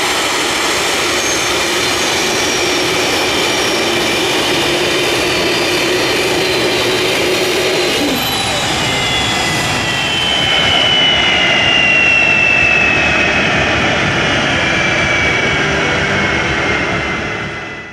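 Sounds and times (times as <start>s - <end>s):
high engine whine falling in pitch: 0.0s - 17.9s
jet engines roaring: 0.0s - 17.9s.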